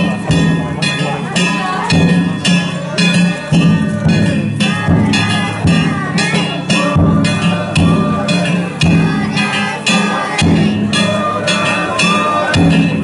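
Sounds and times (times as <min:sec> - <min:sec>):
festival drum beat: 0:00.0 - 0:13.0
hand gongs ringing: 0:00.0 - 0:13.0.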